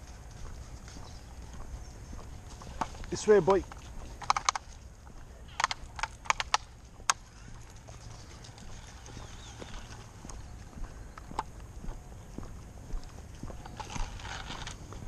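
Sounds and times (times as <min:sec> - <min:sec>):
footsteps on tarmac: 0:00.0 - 0:15.0.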